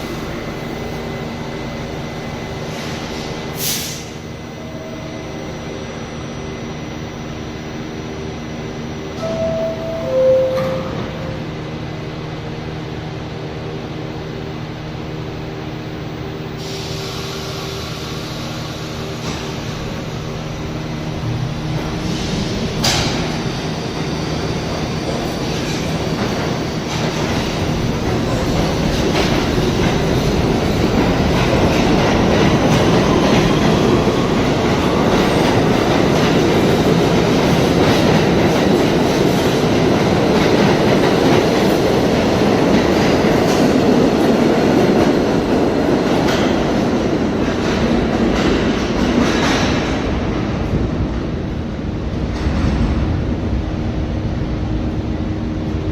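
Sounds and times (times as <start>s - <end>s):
subway train rumbling on track: 0.0s - 55.9s.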